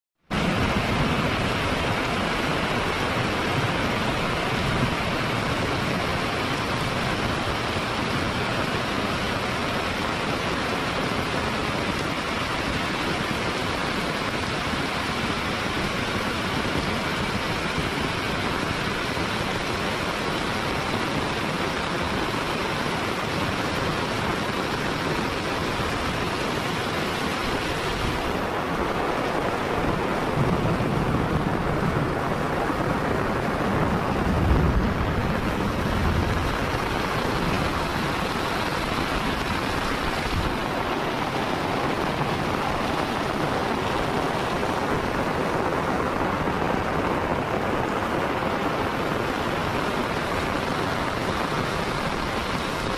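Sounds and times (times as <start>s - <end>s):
heavy rain on wet pavement: 0.2s - 52.9s.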